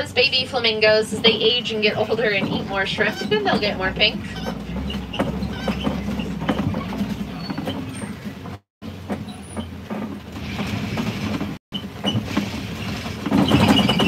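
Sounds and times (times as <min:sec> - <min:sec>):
truck engine running low: 0:00.0 - 0:14.0
vehicle rattles and knocks: 0:00.0 - 0:14.0.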